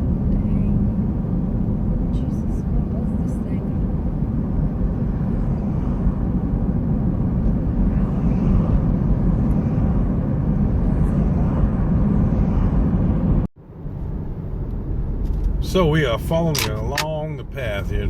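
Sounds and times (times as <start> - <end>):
car interior road rumble: 0.0 - 18.0.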